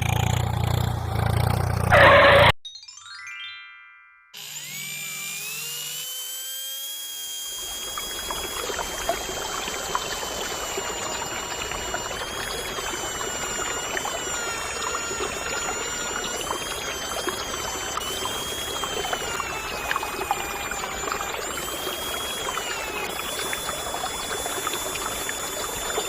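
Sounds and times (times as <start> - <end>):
electric motor whining: 1.7 - 2.5, 4.4 - 26.0.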